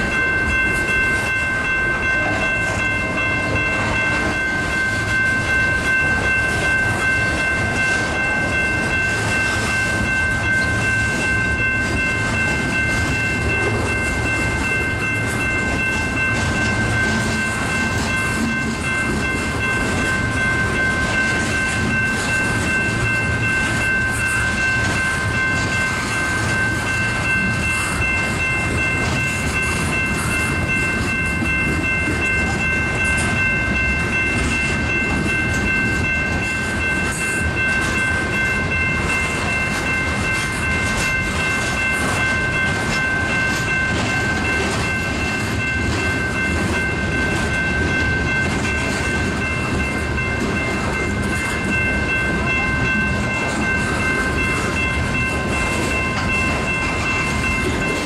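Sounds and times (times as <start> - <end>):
freight train wheels rumbling on rail: 0.0 - 58.0
steady high-pitched tone: 0.0 - 58.0.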